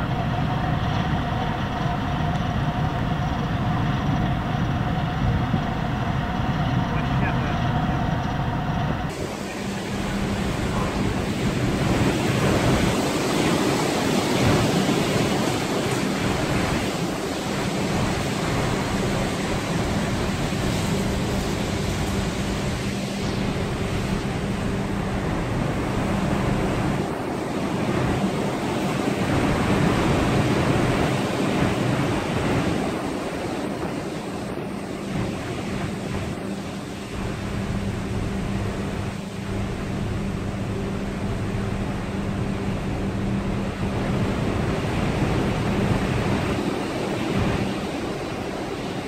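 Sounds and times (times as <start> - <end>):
heavy seas breaking against ship: 0.0 - 49.0
low steady hum: 0.0 - 49.0
storm wind: 0.0 - 49.0.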